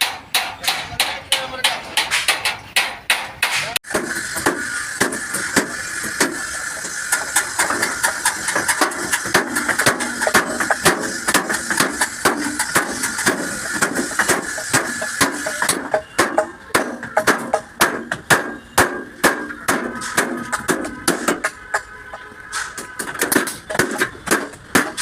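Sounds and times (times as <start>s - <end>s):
hammer on sheet metal: 0.0s - 6.4s, 7.1s - 21.9s, 22.6s - 25.0s.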